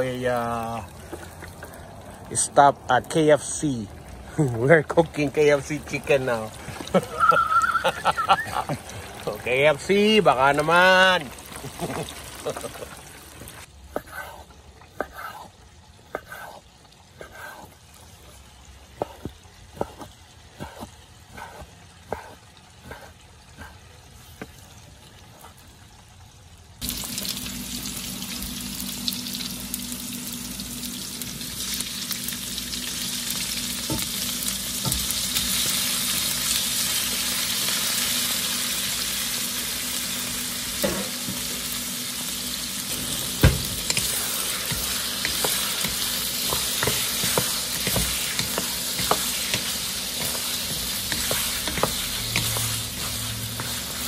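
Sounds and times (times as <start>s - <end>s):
food sizzling in hot oil: 0.0s - 23.7s, 25.8s - 54.0s.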